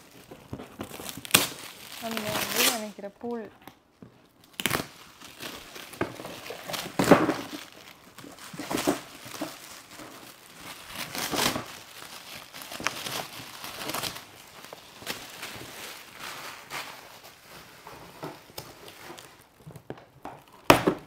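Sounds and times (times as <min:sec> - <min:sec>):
gift wrap tearing and crinkling: 0:00.0 - 0:03.1, 0:04.2 - 0:21.0.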